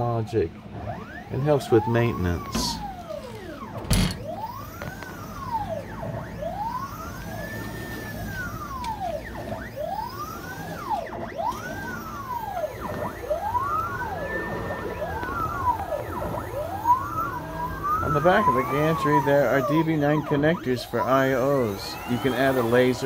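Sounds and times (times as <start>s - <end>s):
motors whining in rising pitch: 0.6s - 23.0s.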